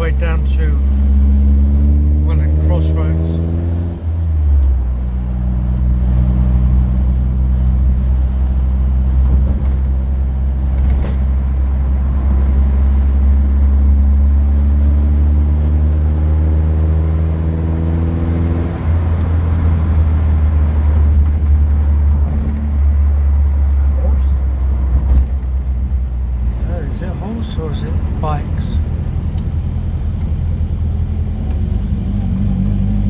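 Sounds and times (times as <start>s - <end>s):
car engine from inside cabin: 0.0s - 33.0s.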